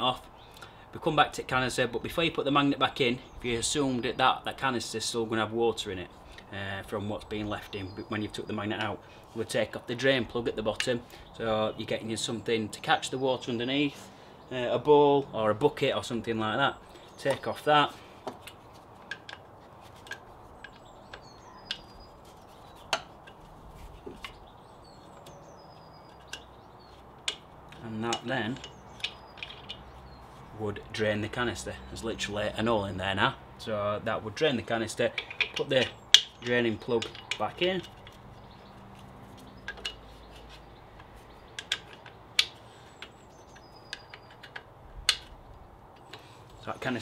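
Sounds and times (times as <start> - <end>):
bird chirping faintly: 6.0 - 47.0.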